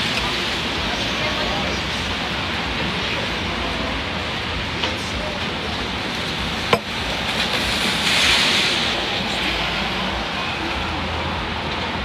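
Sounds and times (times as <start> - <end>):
steady rain: 0.0 - 12.0
traffic noise: 0.0 - 12.0
tyres hissing on wet road: 0.0 - 12.0.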